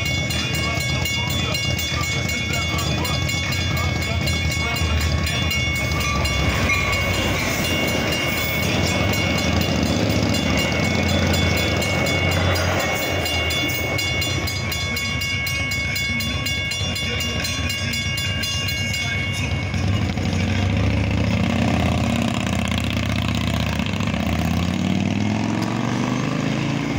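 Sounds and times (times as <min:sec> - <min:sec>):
crossing signal bells dinging: 0:00.0 - 0:26.9
train wheels rumbling on rails: 0:00.0 - 0:26.9.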